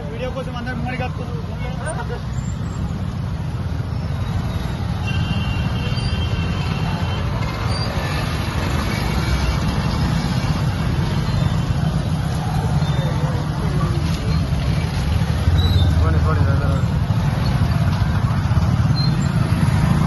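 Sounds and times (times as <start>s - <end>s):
motorcycles and scooters riding past: 2.5s - 20.0s.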